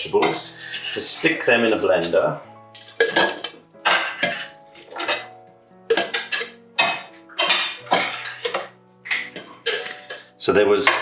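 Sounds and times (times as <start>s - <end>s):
metal utensil clinking on dish: 0.1s - 11.0s.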